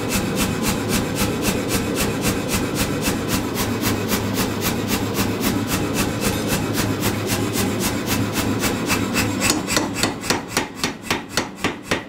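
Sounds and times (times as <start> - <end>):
motor hum: 0.0 - 9.8
power hammer striking metal: 0.0 - 12.0.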